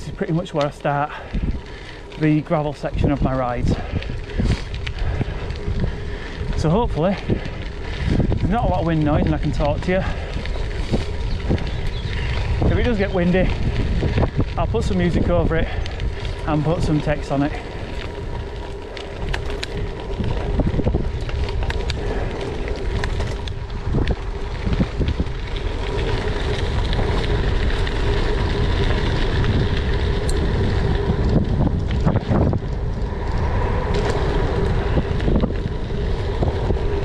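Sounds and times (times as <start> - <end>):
bike tyres rolling on gravel: 0.0 - 37.0
wind buffeting microphone: 0.0 - 37.0.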